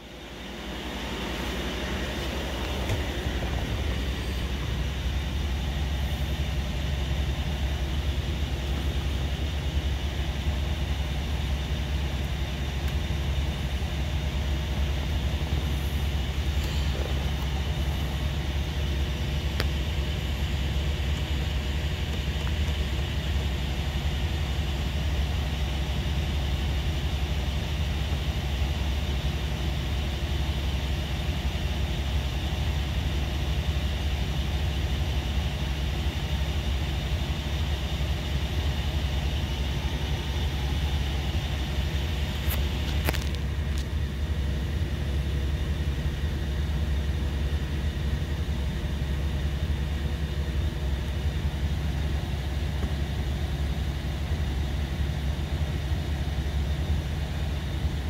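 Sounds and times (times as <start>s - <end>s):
car cabin rumble and hiss: 0.0s - 58.0s.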